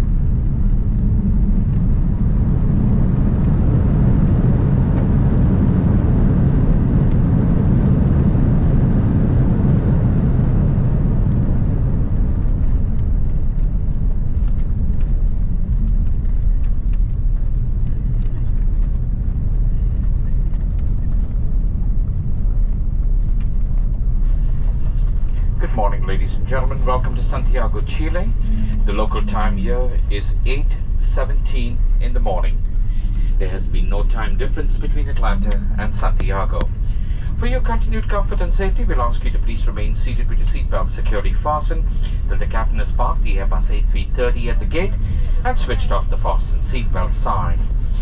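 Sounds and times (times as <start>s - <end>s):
jet engines rumbling: 0.0s - 48.0s
wheels on runway: 0.0s - 48.0s.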